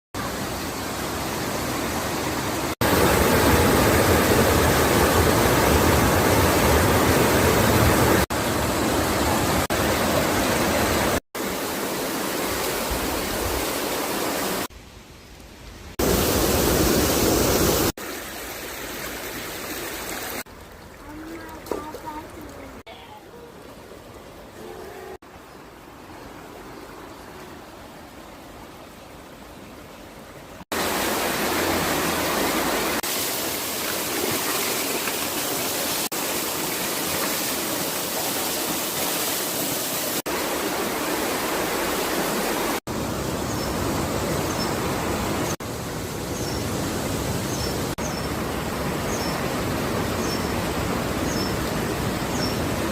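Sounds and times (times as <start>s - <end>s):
stream flowing: 0.2s - 52.9s.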